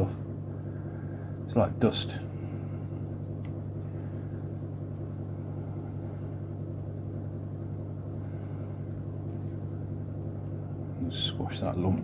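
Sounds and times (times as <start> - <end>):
space heater humming: 0.0 - 12.0.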